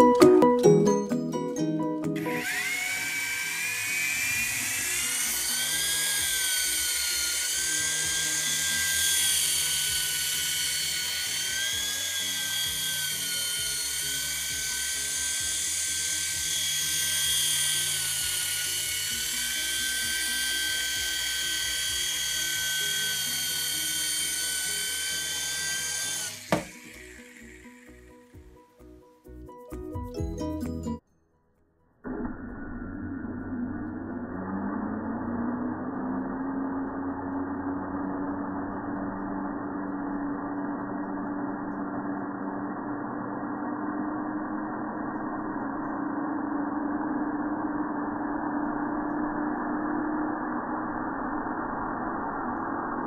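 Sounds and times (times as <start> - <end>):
toy helicopter motor whining: 2.2 - 28.7, 32.1 - 53.0.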